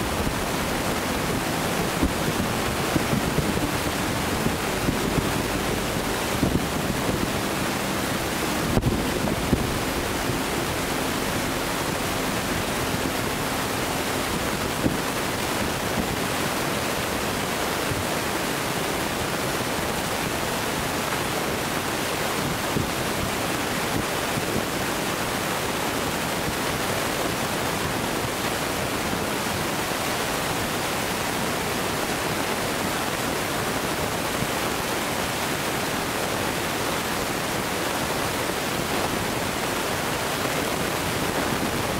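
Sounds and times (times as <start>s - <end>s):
outdoor background hiss: 0.0s - 41.9s.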